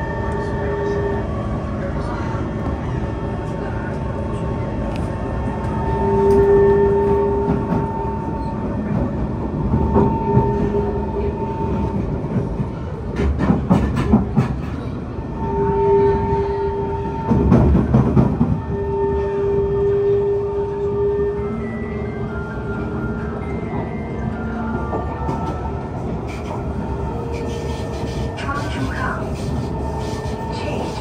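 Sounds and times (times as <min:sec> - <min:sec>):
metro train rumble and rattle: 0:00.0 - 0:31.0.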